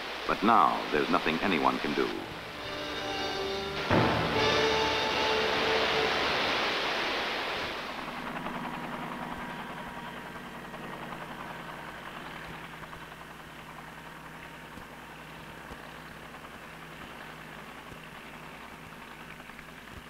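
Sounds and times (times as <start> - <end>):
helicopter rotor chop: 0.0 - 20.0
whining turbine: 0.0 - 20.0.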